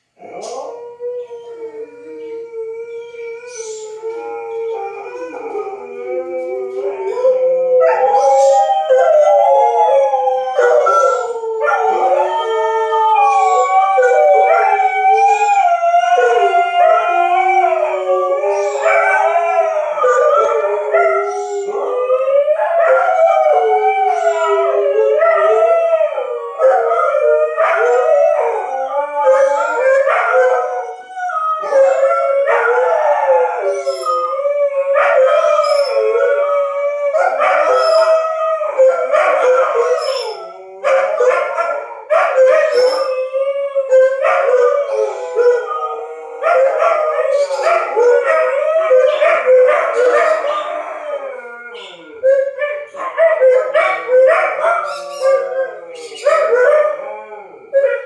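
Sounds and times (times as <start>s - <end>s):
dogs howling: 0.0s - 58.0s.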